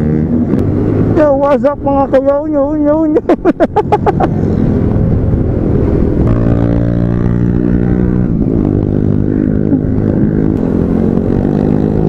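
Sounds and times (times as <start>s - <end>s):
motorcycle engine running: 0.0s - 12.0s
wind rumbling on microphone: 0.0s - 12.0s.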